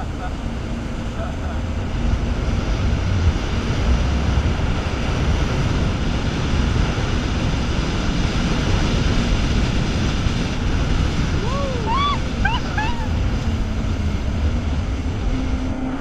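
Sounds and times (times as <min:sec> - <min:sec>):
jet ski engine: 0:00.0 - 0:16.0
water rushing past hull: 0:00.0 - 0:16.0.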